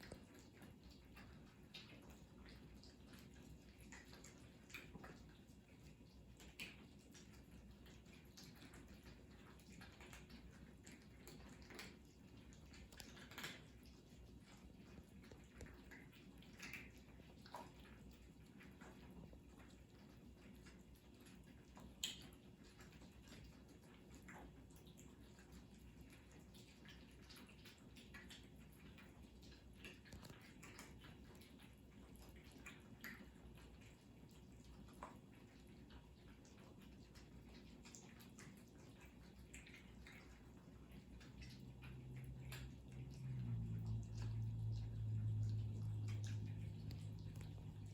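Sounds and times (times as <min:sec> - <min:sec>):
cats chewing and eating: 0:00.0 - 0:47.9
low background hum: 0:00.0 - 0:47.9.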